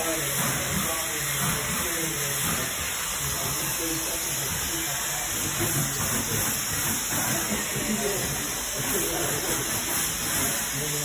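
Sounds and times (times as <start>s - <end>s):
brush scrubbing floor tiles: 0.0s - 11.0s
steam cleaner hissing: 0.0s - 11.0s.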